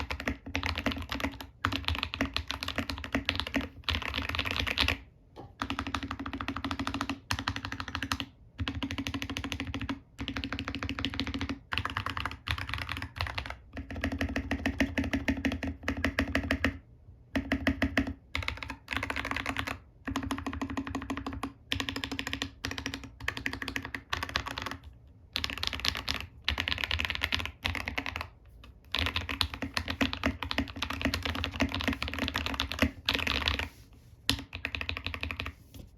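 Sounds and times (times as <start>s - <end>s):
mechanical keyboard typing: 0.0s - 5.0s, 5.6s - 16.8s, 17.4s - 28.3s, 28.9s - 33.7s, 34.4s - 35.5s.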